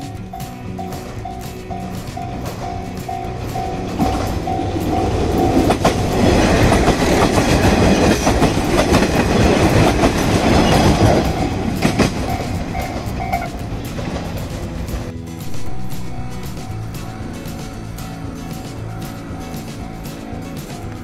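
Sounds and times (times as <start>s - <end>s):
level crossing warning bell: 0.0s - 14.0s, 15.5s - 21.0s
diesel train passing: 0.0s - 21.0s
train wheels clicking over rail joints: 0.0s - 21.0s.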